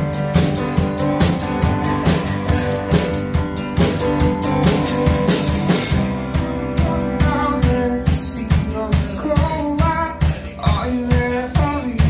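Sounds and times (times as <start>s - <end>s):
drum kit beat: 0.0s - 12.0s
live rock band playing: 0.0s - 12.0s.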